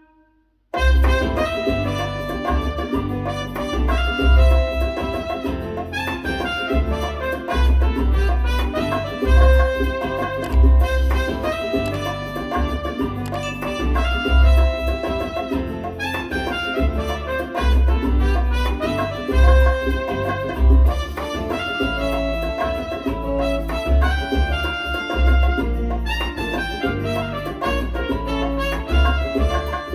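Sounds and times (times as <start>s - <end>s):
salsa music with brass: 0.0s - 29.9s
pulsing bass line: 0.8s - 6.0s, 6.8s - 16.0s, 16.8s - 29.9s.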